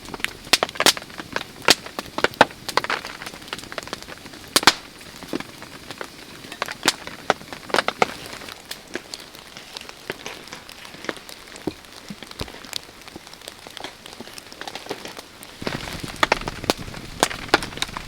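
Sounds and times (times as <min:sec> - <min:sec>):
faint rain hiss: 0:00.0 - 0:18.0
large raindrops tapping: 0:00.0 - 0:18.0.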